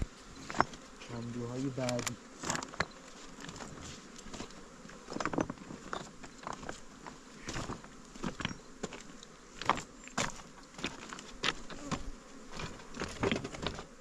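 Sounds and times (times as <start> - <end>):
bees flying close by: 0.0 - 14.0
honeybees buzzing: 0.0 - 14.0.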